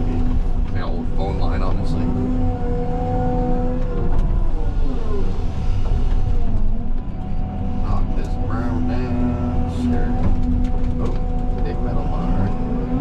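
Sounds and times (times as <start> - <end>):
excavator diesel engine: 0.0 - 13.0
hydraulic whine: 0.0 - 13.0.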